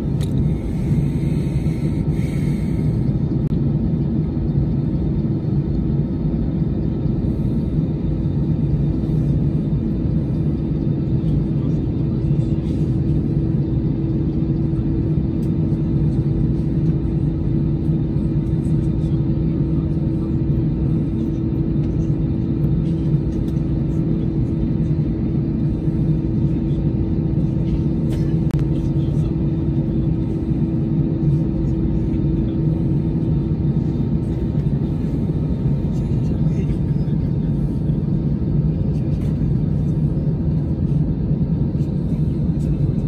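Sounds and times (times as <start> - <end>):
airliner cabin rumble and hum: 0.0 - 43.0.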